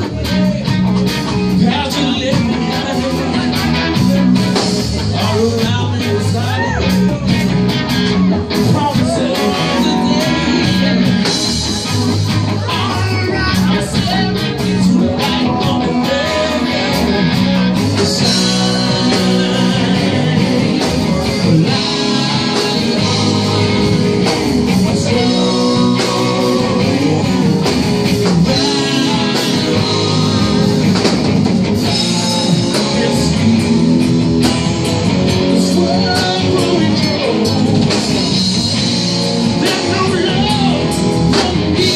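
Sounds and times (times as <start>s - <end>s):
person singing: 0.0s - 38.8s
drum kit: 0.0s - 41.9s
electric guitars: 0.0s - 41.9s.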